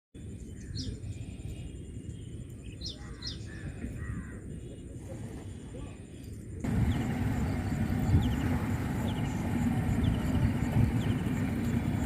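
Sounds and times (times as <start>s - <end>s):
low engine rumble: 0.2s - 12.0s.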